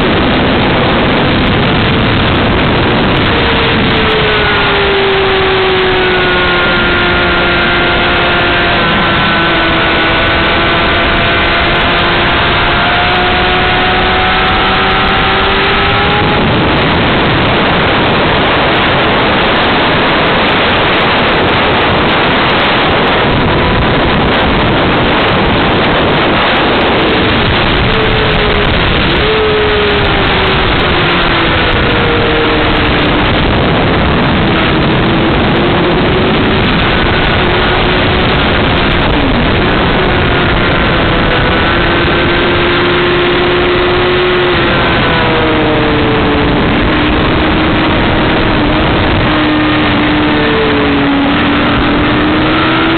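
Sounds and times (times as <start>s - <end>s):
motorcycle engine running: 0.0s - 52.9s
wind noise on microphone: 0.0s - 52.9s.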